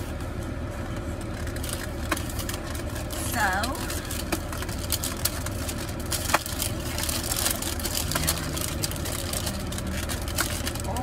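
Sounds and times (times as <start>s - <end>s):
car engine idling hum: 0.0s - 11.0s
paper wrapper crinkling: 1.2s - 11.0s.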